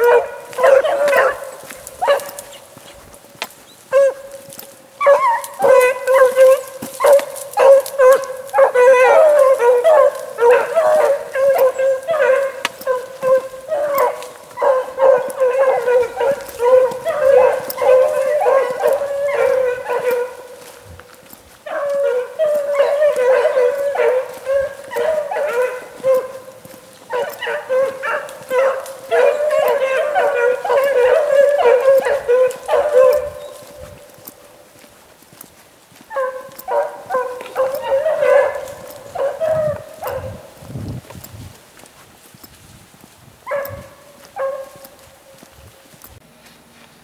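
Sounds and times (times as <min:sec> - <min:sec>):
hounds baying: 0:00.0 - 0:40.6, 0:43.4 - 0:45.5.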